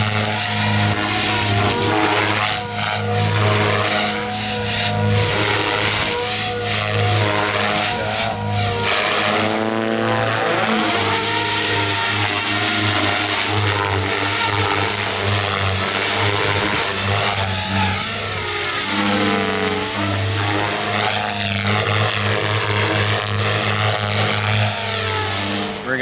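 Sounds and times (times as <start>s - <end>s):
electric motor whine: 0.0s - 26.0s
rc helicopter rotor drone: 0.0s - 26.0s.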